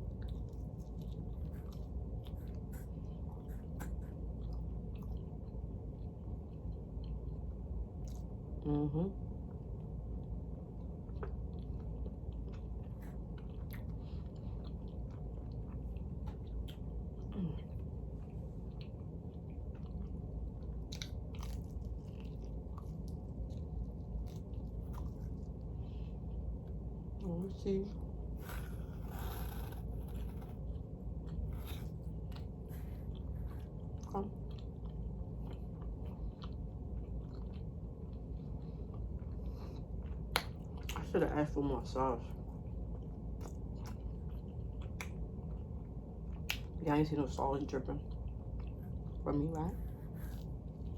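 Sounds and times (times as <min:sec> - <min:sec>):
chewing food: 0:00.0 - 0:08.7, 0:09.4 - 0:50.9
low background hum: 0:00.0 - 0:50.9.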